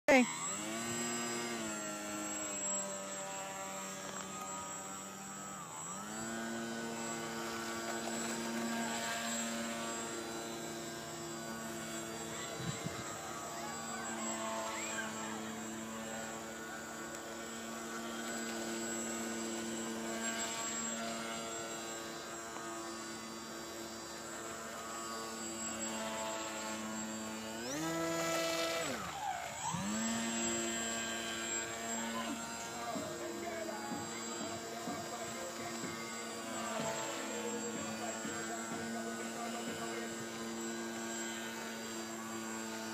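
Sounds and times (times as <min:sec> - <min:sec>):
model airboat motor humming: 0:00.1 - 0:42.9.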